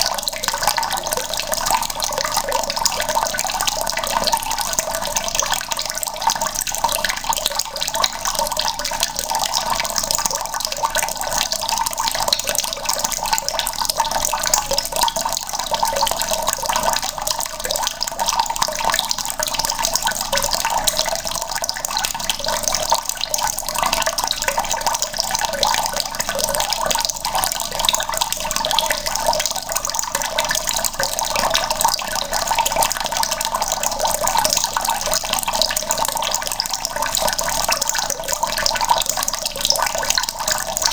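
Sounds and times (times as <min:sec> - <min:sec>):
tap water splashing into bucket: 0:00.0 - 0:40.9.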